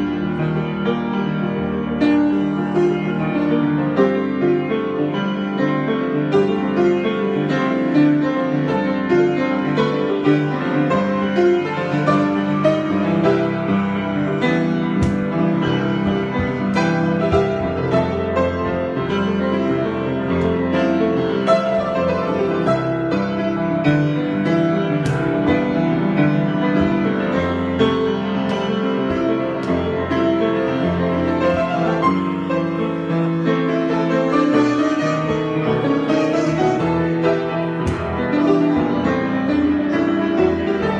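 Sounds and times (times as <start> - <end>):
solo piano improvisation: 0.0 - 40.9.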